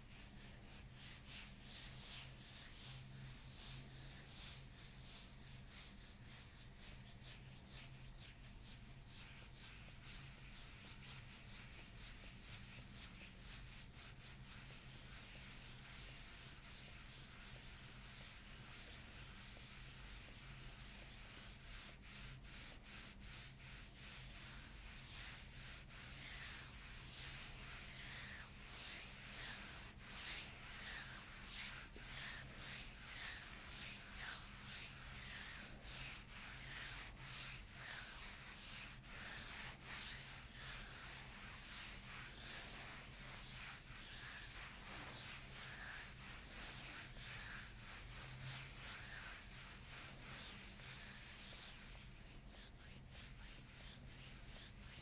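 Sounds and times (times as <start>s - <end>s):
hands rubbing on bare skin: 0.0s - 55.0s.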